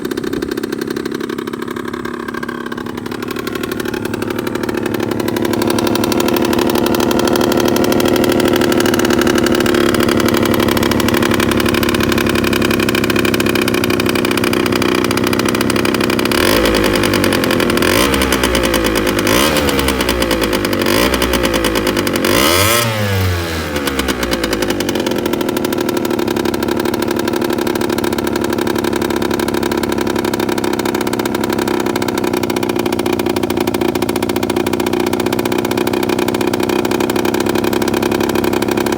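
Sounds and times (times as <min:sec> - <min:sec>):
two-stroke engine running and revving: 0:00.0 - 0:38.9.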